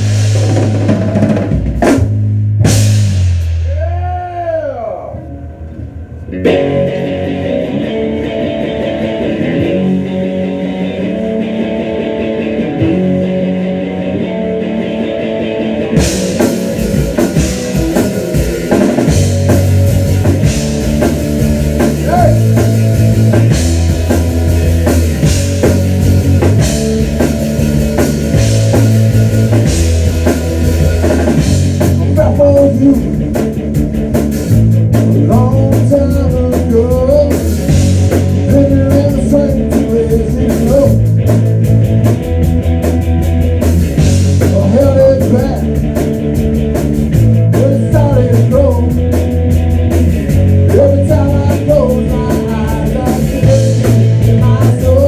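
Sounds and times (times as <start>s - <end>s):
drum kit with cymbals: 0.0s - 13.4s, 15.0s - 55.0s
bass guitar: 0.0s - 55.0s
electric guitar riff: 0.0s - 55.0s.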